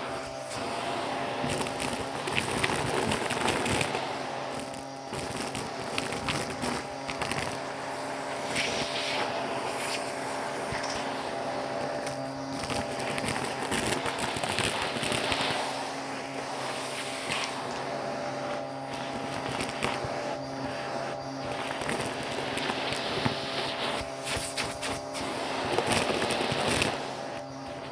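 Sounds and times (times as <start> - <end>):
debris rattling up vacuum tool: 0.0 - 27.9
vacuum cleaner running: 0.0 - 27.9.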